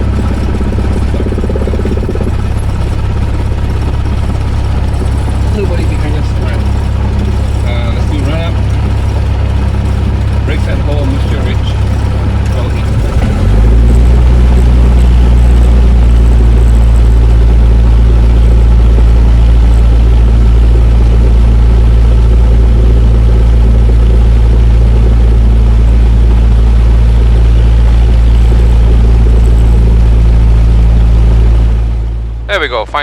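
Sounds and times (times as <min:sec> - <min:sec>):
aircraft engine running: 0:00.0 - 0:33.0.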